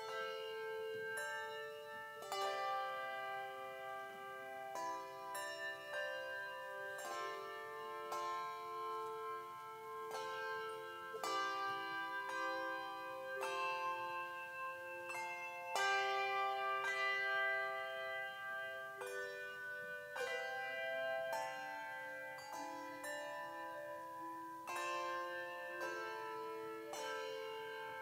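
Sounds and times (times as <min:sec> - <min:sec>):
handbell chords ringing: 0:00.0 - 0:28.0.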